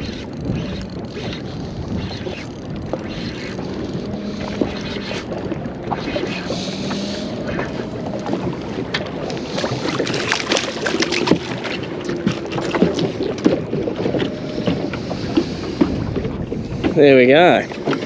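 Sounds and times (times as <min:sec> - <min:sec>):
water wash: 0:00.0 - 0:18.0
wind on microphone: 0:00.0 - 0:18.0.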